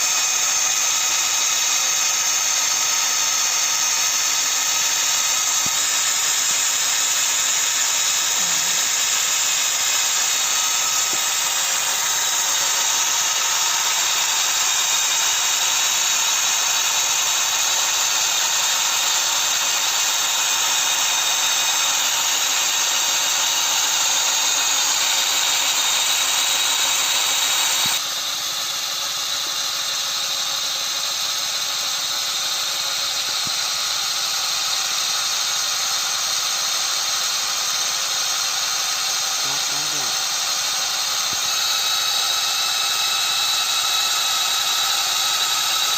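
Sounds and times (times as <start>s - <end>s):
high-pitched electric motor whine: 0.0s - 45.9s.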